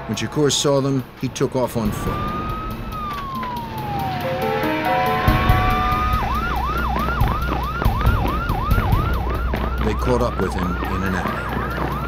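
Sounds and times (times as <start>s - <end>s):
police car siren: 1.8s - 12.0s.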